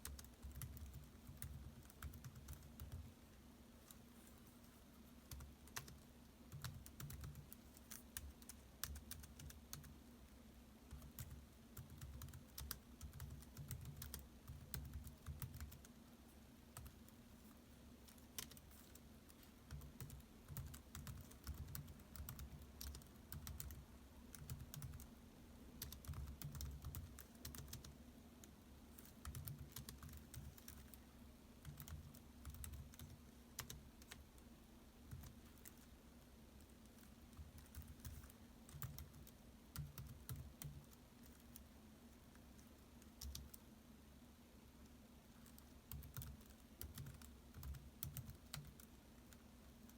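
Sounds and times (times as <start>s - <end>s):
laptop keyboard typing: 0.0s - 3.2s, 5.1s - 10.0s, 10.9s - 16.0s, 16.6s - 17.2s, 18.0s - 31.0s, 31.6s - 35.9s, 36.6s - 41.7s, 42.6s - 43.6s, 45.4s - 49.9s
faint low hum: 0.0s - 49.9s.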